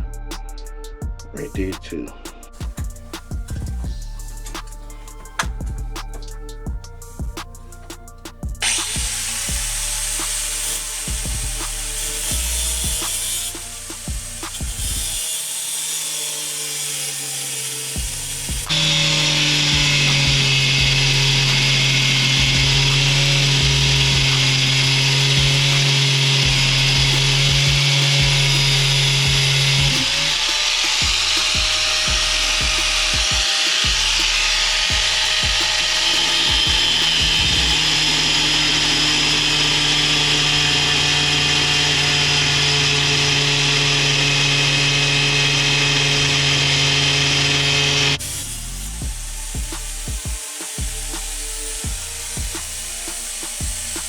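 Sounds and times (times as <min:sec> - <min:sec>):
angle grinder cutting: 0:02.6 - 0:54.0.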